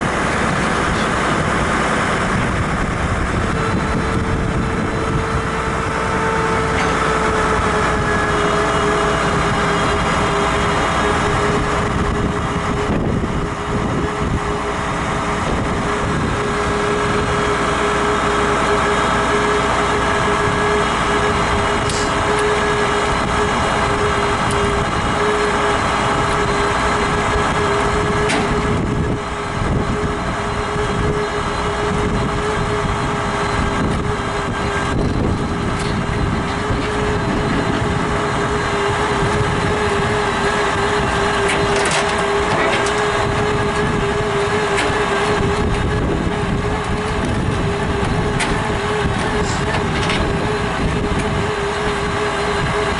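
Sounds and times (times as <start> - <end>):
high whine: 0.0 - 52.9
truck engine running: 0.0 - 52.9.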